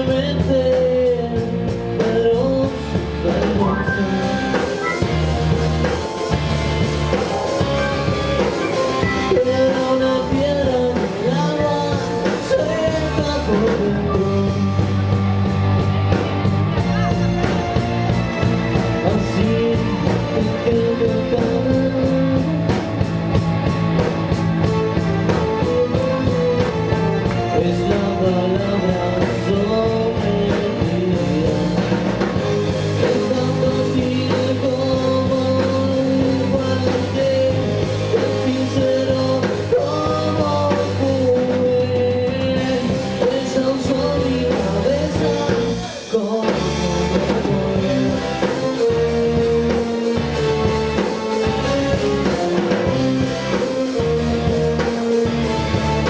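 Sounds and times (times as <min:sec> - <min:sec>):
rock song with singing: 0:00.0 - 0:56.0.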